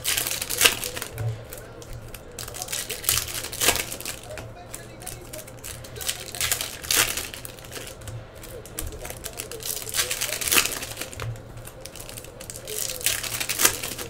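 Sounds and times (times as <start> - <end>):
foil wrappers crinkling: 0.0 - 14.0.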